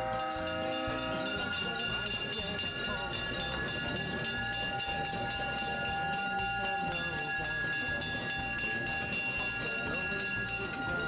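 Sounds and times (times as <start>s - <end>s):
crossing bell ringing: 0.0s - 11.0s
diesel locomotive rumble: 0.0s - 11.0s.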